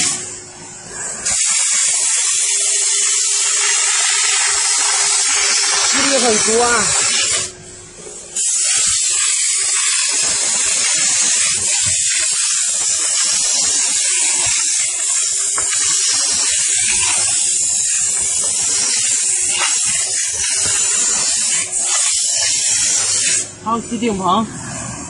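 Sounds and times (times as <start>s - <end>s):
steam nozzle hissing: 0.0s - 25.0s.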